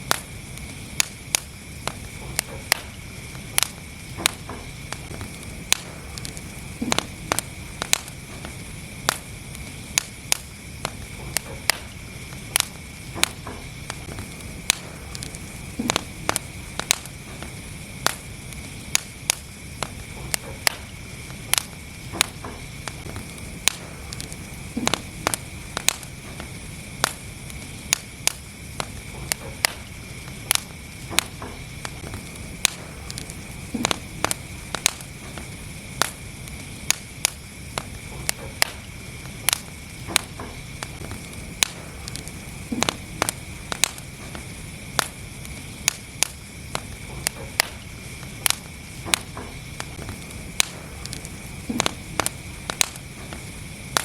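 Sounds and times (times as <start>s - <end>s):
fire rumble and hiss: 0.0s - 54.0s
wood fire crackling and popping: 0.0s - 54.0s.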